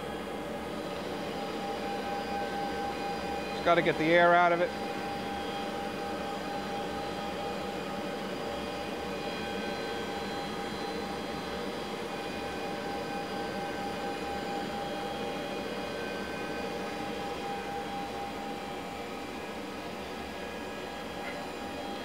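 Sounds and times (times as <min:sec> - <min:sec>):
grinder humming and whining: 0:00.0 - 0:22.0.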